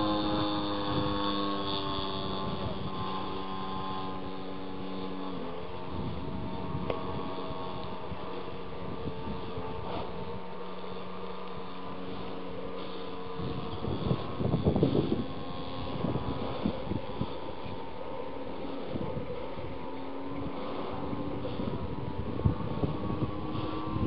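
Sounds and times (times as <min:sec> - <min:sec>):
model plane motor droning: 0:00.0 - 0:24.0.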